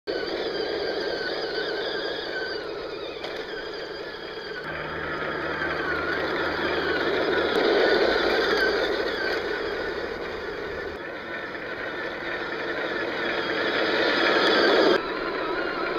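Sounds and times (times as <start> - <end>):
plastic tracks rattling over dirt: 0.1 - 15.9
toy tank motors whining: 0.1 - 15.9.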